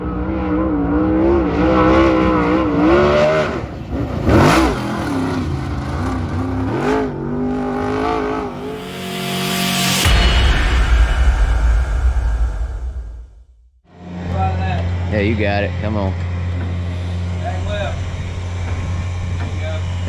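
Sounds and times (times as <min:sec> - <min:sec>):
race car engine revving: 0:00.0 - 0:10.2, 0:13.9 - 0:20.0.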